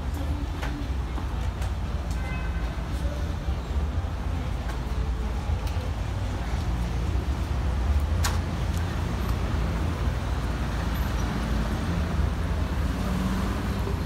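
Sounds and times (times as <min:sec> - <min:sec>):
cars driving by: 0:00.0 - 0:14.0.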